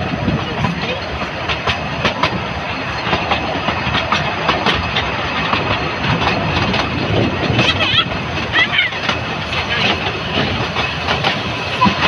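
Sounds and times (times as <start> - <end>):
train rumbling on track: 0.0 - 12.0
wheels clicking on rails: 0.0 - 12.0.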